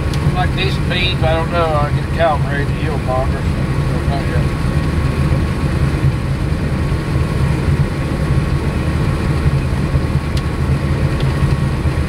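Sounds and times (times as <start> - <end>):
combine harvester engine rumble: 0.0 - 12.0.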